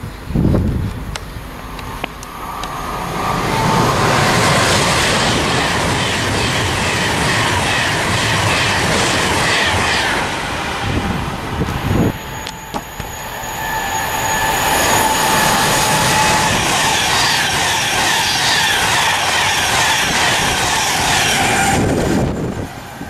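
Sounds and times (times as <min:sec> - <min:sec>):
train rushing past: 0:00.0 - 0:23.0.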